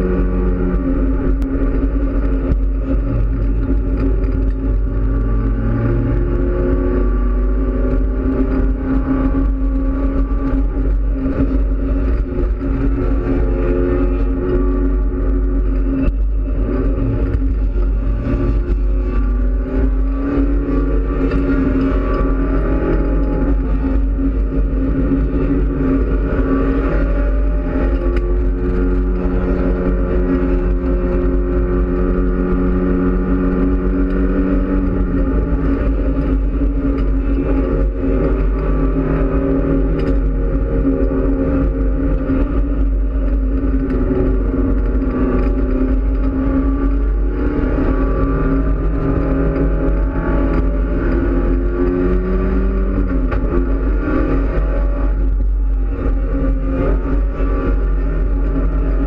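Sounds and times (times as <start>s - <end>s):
race car engine revving: 0.0s - 59.0s
road and wind noise: 0.0s - 59.0s.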